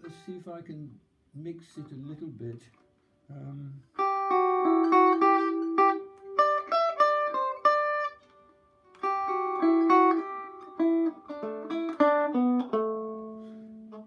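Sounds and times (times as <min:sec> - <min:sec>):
fingerpicked banjo melody: 0:00.0 - 0:00.6, 0:02.5 - 0:14.0.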